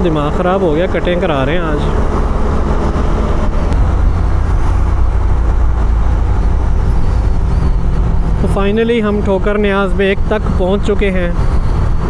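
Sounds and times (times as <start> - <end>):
motorcycle engine: 0.0 - 12.0
wind on microphone: 1.6 - 12.0.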